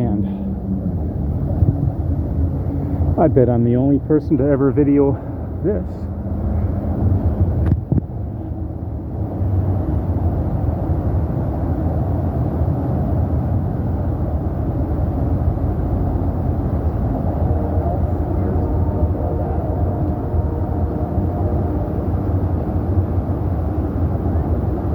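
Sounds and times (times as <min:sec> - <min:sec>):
wind buffeting microphone: 0:00.0 - 0:04.3, 0:05.1 - 0:24.9.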